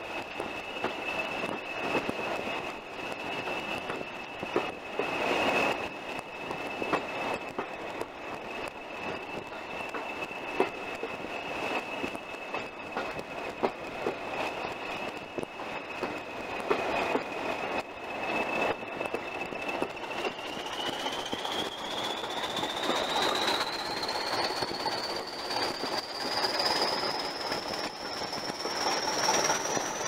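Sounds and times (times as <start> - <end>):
steady high whistle: 0.0 - 30.0.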